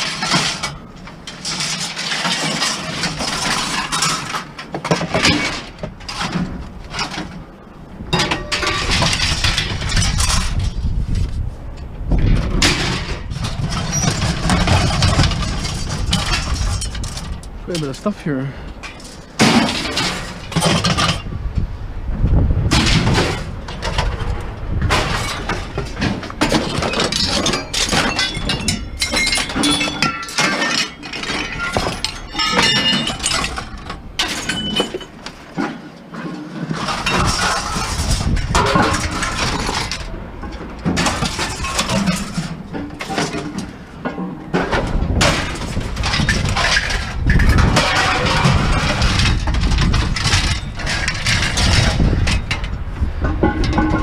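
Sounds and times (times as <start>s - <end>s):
scrap clanking and rattling: 0.0s - 21.4s, 22.7s - 54.0s.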